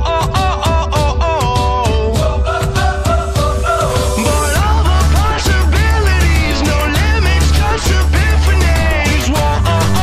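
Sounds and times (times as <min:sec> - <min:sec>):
upbeat music with bass line: 0:00.0 - 0:10.0.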